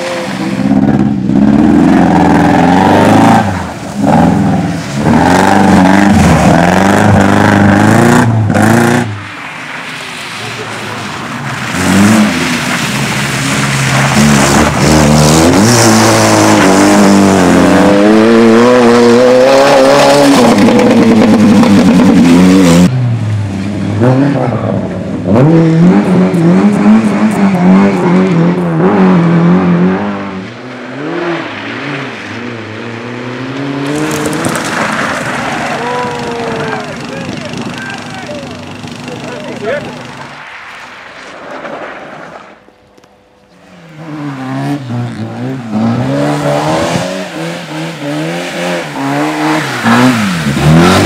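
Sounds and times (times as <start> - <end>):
rally car engines revving: 0.0 - 40.6, 41.5 - 51.0.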